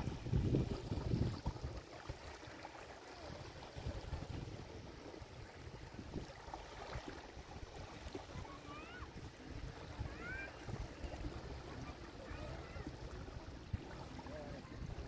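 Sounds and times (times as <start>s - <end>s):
small waves washing onto shore: 0.0s - 15.0s.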